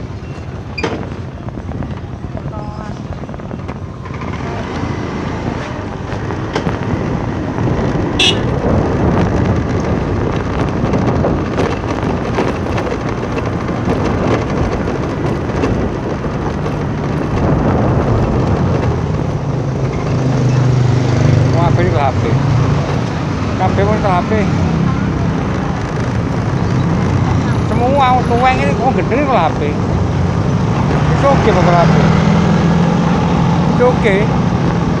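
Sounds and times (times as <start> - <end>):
vehicle engine and road rumble: 0.0 - 35.0
wind on microphone: 0.0 - 35.0.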